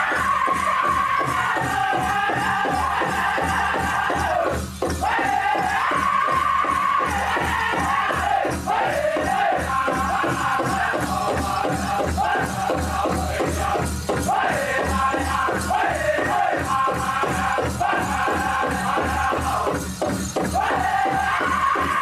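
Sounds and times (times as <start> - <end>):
men singing together: 0.0 - 22.0.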